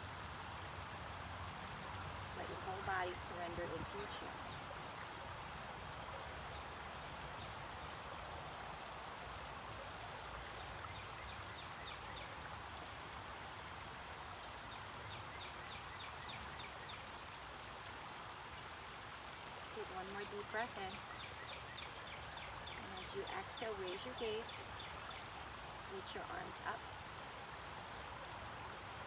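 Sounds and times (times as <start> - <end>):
water trickling in a pond: 0.0 - 29.0.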